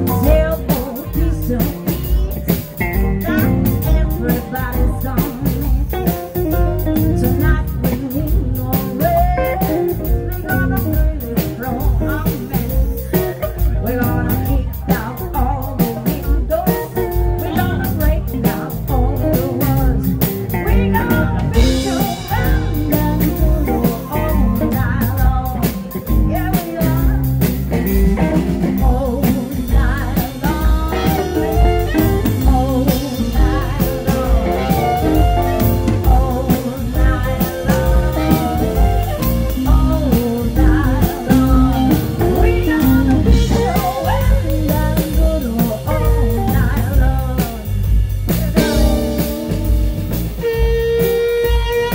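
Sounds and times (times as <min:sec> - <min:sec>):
drum kit beat: 0:00.0 - 0:51.9
electric bass: 0:00.0 - 0:51.9
woman singing: 0:00.0 - 0:51.9.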